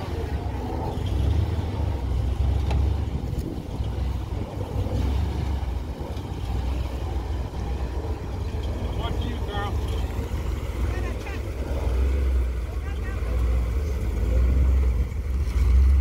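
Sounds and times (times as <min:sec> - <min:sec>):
engine exhaust rumble: 0:00.0 - 0:16.0.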